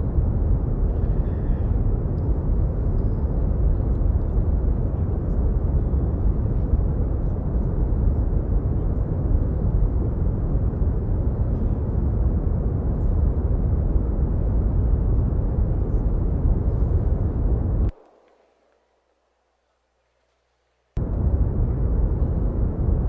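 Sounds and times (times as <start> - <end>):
deep rumbling brown noise: 0.0 - 18.1, 21.0 - 23.0.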